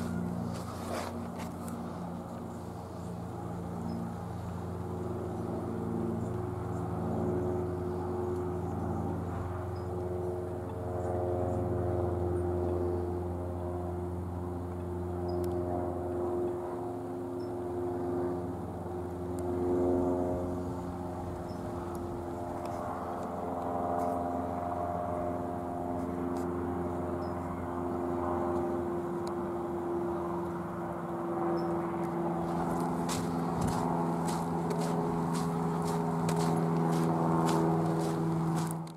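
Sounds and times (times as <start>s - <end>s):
engine drone: 0.0s - 38.9s.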